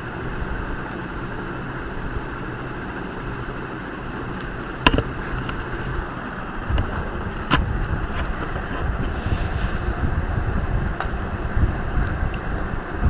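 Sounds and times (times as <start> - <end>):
microphone hiss and hum: 0.0 - 13.0.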